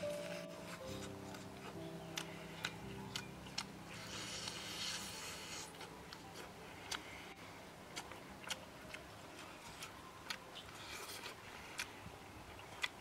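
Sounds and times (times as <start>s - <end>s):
food rustling in hands: 0.0s - 13.0s
chewing crunches and mouth clicks: 0.7s - 7.3s, 7.9s - 13.0s.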